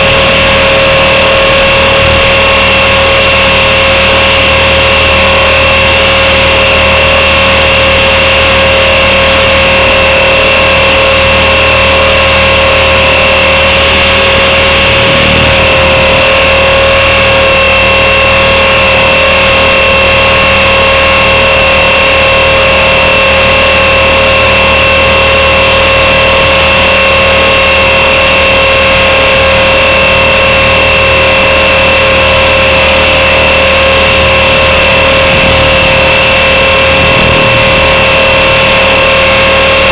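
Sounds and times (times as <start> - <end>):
rc helicopter motor whine: 0.0 - 39.9
rotor noise: 0.0 - 39.9.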